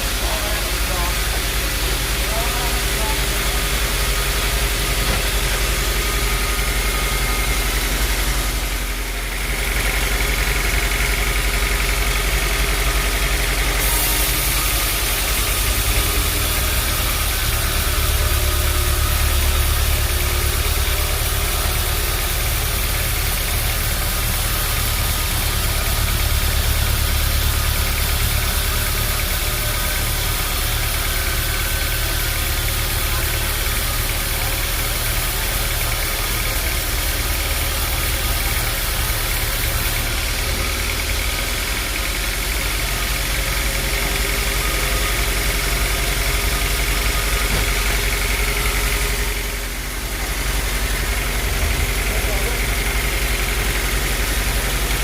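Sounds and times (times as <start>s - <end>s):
sawmill machinery motor hum: 0.0s - 55.0s.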